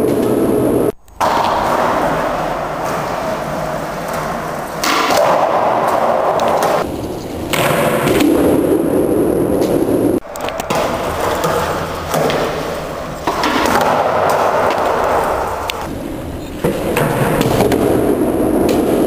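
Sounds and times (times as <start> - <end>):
skateboard clacks: 0.0 - 8.8, 9.5 - 19.0
skateboard wheels rolling on concrete: 0.0 - 19.0.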